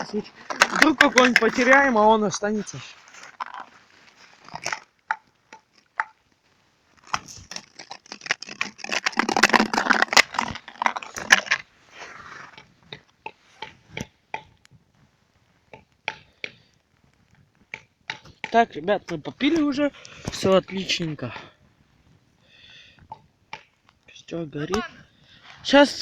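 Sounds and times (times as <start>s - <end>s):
close rustling and crunching: 0.0s - 26.0s.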